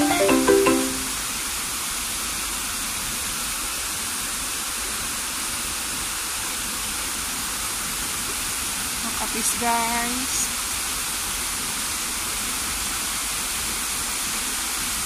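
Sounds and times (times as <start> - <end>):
waterfall rushing into a pool: 0.0 - 15.0.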